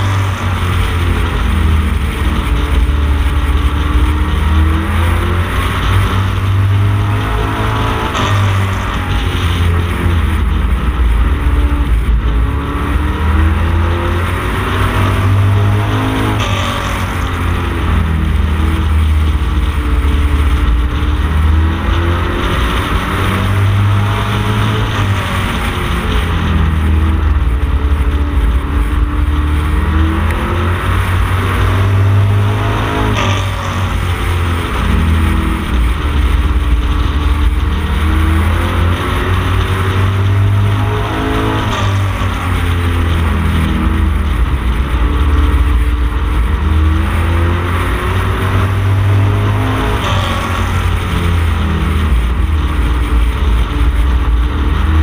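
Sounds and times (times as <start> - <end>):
race car engine at racing pace: 0.0 - 55.0.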